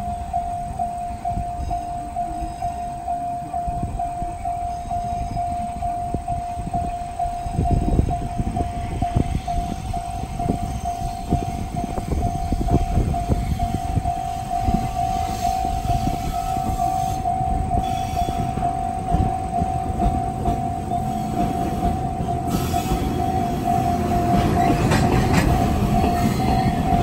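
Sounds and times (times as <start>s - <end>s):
level crossing warning bell: 0.0s - 27.0s.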